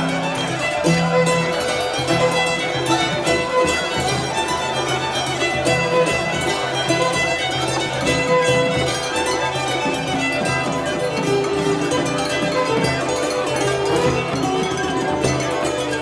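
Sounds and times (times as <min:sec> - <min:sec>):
cheerful carnival music with strings: 0:00.0 - 0:16.0.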